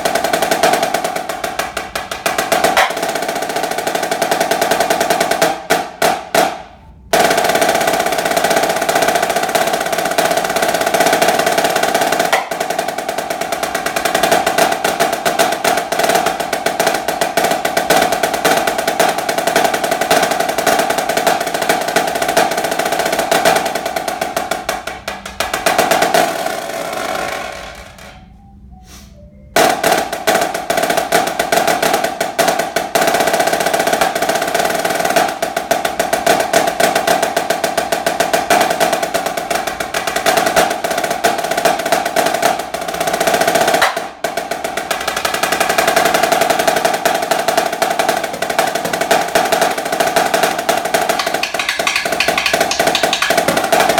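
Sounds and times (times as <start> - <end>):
snare drum rolls: 0.0 - 28.3, 29.6 - 53.9.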